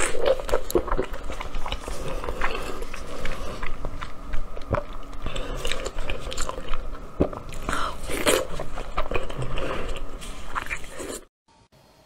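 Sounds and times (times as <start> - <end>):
wet chewing: 0.0 - 11.3.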